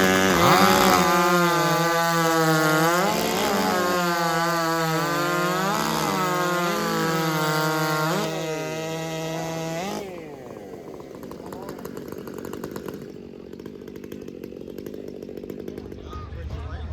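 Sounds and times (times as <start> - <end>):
chainsaw cutting through log: 0.0 - 16.2.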